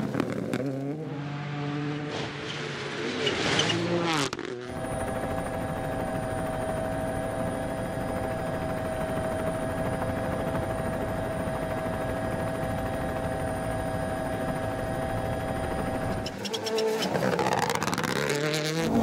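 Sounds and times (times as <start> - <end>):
mechanical drone with whine: 3.2 - 19.0.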